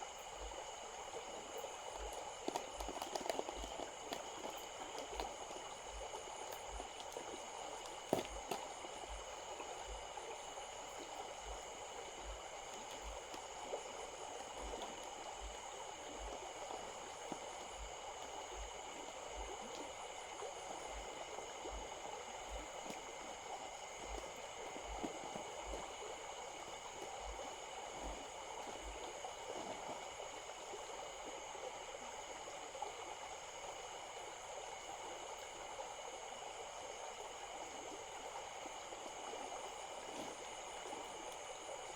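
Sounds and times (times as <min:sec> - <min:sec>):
high-pitched ringing hum: 0:00.0 - 0:41.9.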